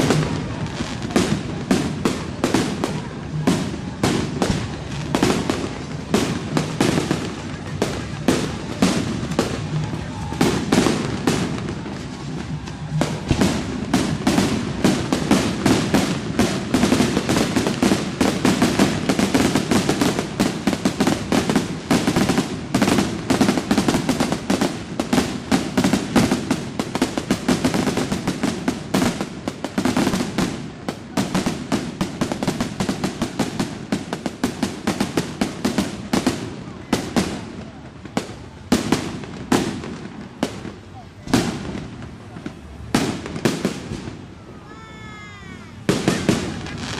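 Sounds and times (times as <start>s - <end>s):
fireworks bangs and cracks: 0.0s - 46.9s.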